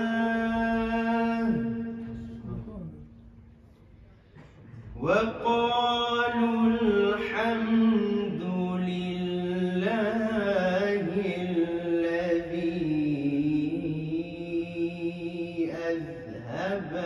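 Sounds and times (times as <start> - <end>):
man reciting melodically: 0.0 - 2.4, 4.9 - 17.0.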